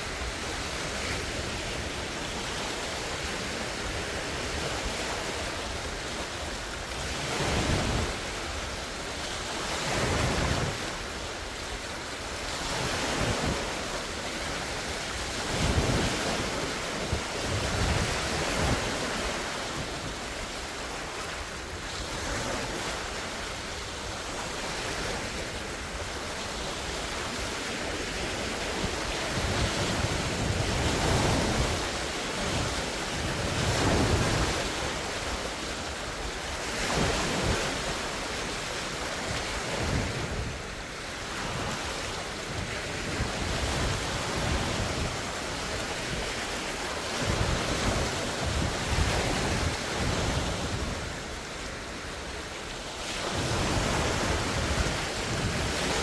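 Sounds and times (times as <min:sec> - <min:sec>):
wind buffeting microphone: 0:00.0 - 0:52.4, 0:53.2 - 0:56.0
lake waves breaking: 0:00.0 - 0:56.0.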